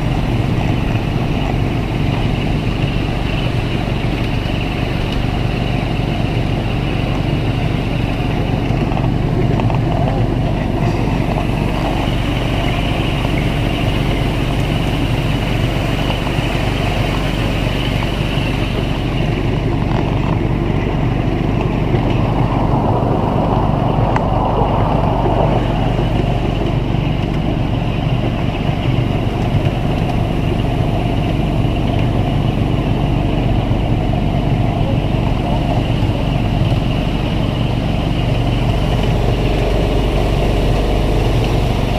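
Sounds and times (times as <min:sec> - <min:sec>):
miniature train running on track: 0:00.0 - 0:22.6, 0:25.5 - 0:41.9.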